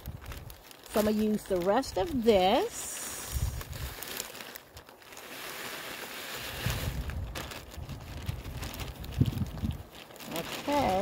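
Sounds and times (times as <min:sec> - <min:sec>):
wind rumbling on microphone: 0:00.0 - 0:04.2, 0:06.4 - 0:11.0
plastic bag crinkling: 0:00.0 - 0:11.0
soil pouring into plastic planter: 0:00.0 - 0:11.0.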